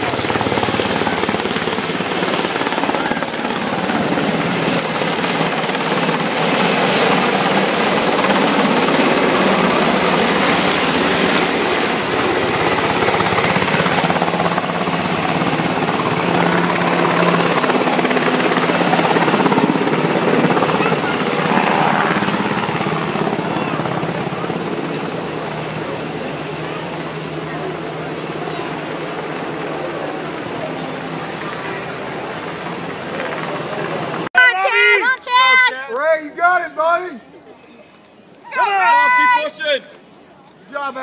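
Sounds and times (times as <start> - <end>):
helicopter rotor beating: 0.0 - 34.3.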